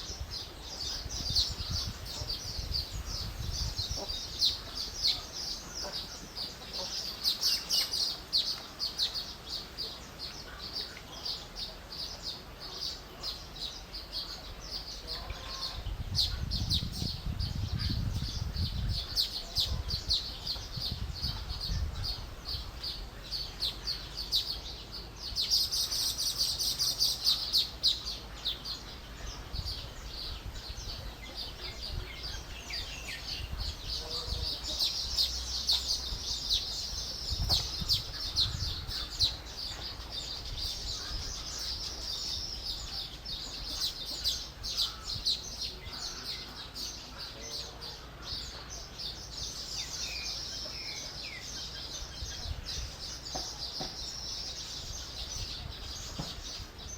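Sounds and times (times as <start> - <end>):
birds chattering: 0.0 - 56.9.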